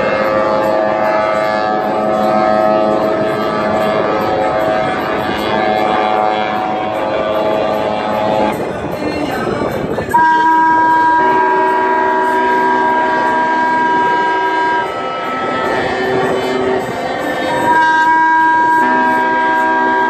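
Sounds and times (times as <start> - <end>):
ship's horn blast: 0.0 - 8.7, 10.1 - 20.0
boat engine rumble: 0.0 - 20.0
water: 0.0 - 20.0.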